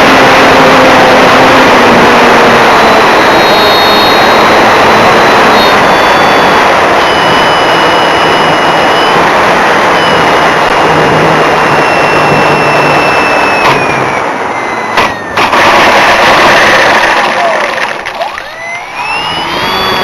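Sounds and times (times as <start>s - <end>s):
electric motor propeller whine: 0.0s - 20.0s.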